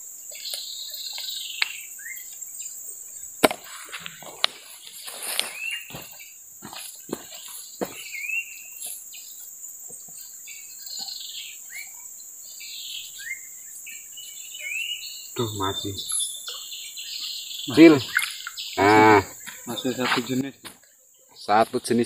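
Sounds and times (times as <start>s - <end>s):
insects droning: 0.0s - 22.0s
birds whistling: 0.3s - 2.7s, 3.6s - 9.5s, 10.2s - 20.4s.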